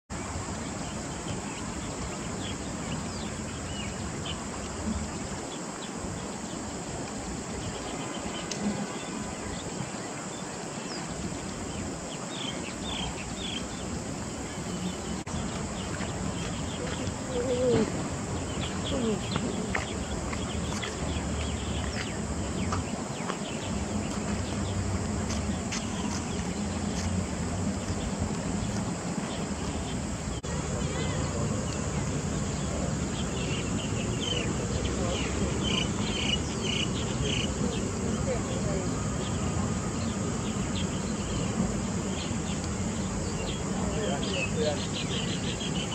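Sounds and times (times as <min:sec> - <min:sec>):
creek hiss and rumble: 0:00.1 - 0:45.9.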